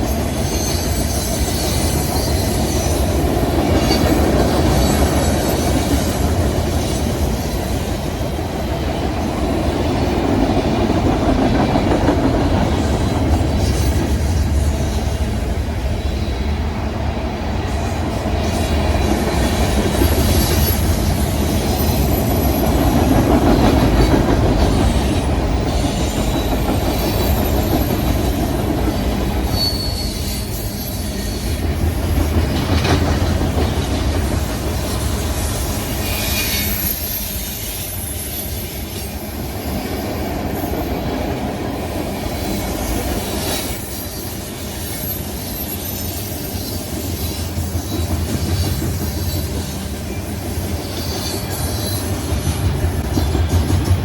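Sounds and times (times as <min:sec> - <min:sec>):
train wheel squeals: 0:00.0 - 0:16.7, 0:17.5 - 0:54.0
freight train rumbling: 0:00.0 - 0:54.0
train wheels clicking on track: 0:00.0 - 0:54.0.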